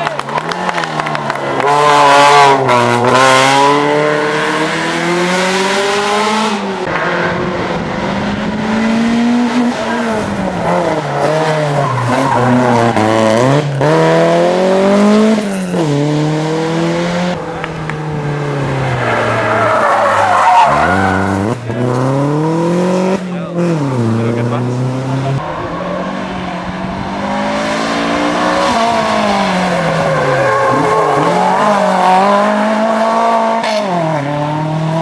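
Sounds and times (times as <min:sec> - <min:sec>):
rally car engine revving: 0:00.0 - 0:35.0
tyre noise on road: 0:00.0 - 0:35.0.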